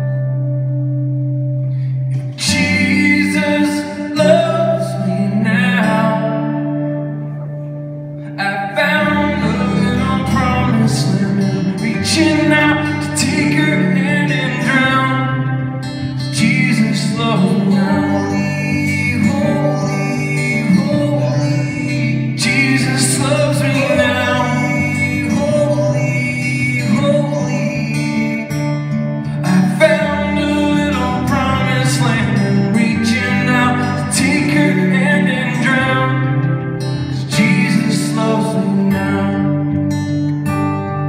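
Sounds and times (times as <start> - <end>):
acoustic and electric guitars: 0.0 - 41.0.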